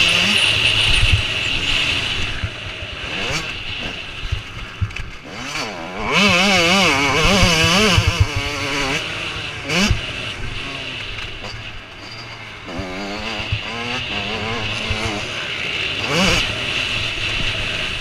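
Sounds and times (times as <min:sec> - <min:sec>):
motorbike passing loudly: 0:00.0 - 0:11.6, 0:12.5 - 0:18.0
motocross bike engines revving: 0:00.0 - 0:18.0.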